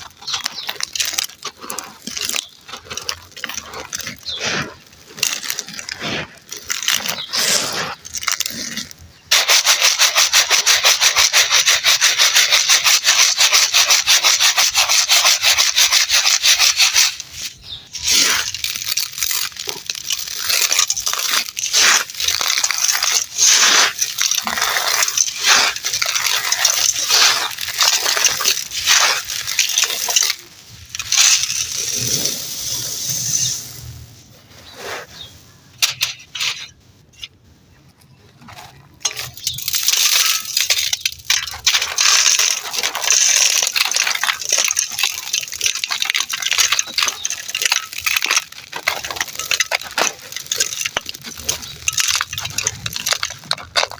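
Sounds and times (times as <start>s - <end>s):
gritty material crunching: 0.0s - 53.9s.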